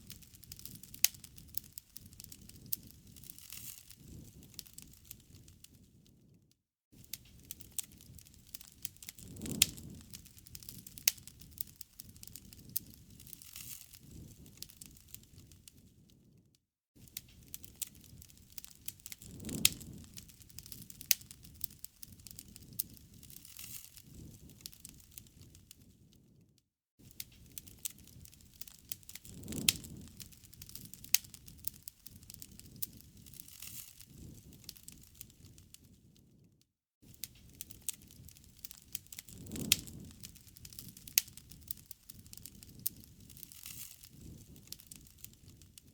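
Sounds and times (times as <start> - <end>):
campfire crackling: 0.0 - 5.9, 7.0 - 16.2, 17.0 - 26.3, 27.1 - 36.0, 37.1 - 45.9
low rush of flames: 0.0 - 6.4, 7.0 - 16.4, 17.0 - 26.4, 27.0 - 45.9.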